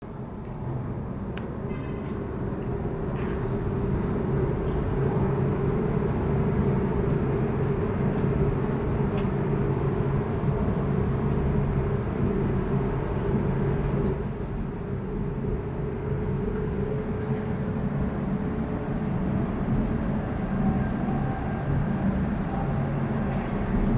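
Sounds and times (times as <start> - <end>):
low mechanical rumble with hum: 0.1 - 20.8.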